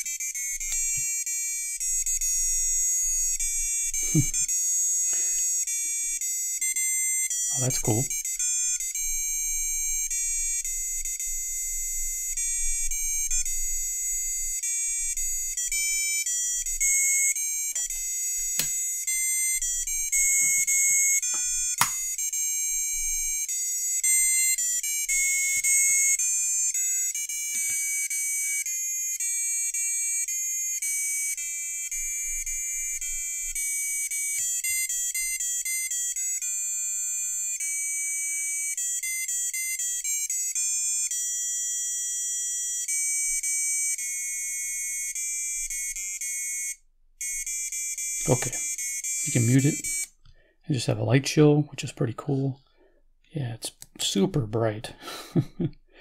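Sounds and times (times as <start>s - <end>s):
electronic buzzer melody: 0.0s - 50.2s.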